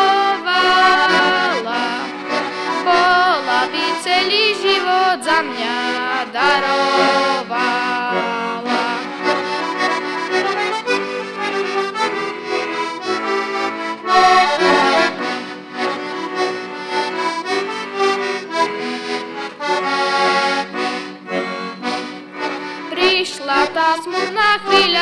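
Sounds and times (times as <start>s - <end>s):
button accordion melody: 0.0s - 25.0s.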